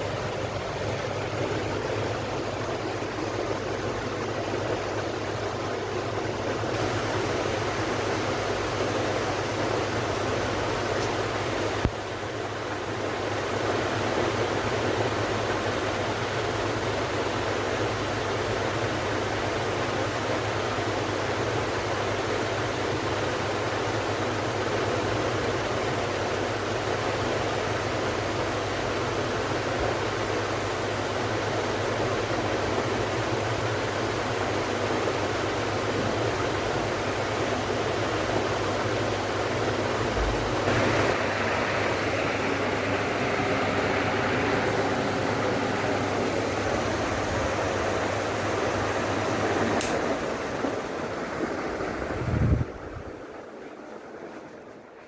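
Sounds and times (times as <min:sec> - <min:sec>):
ceiling fan whooshing and humming: 0:00.0 - 0:55.0.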